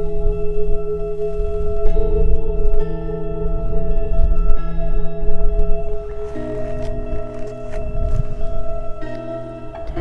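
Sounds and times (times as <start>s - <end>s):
sustained ringing music tones: 0.0s - 10.0s.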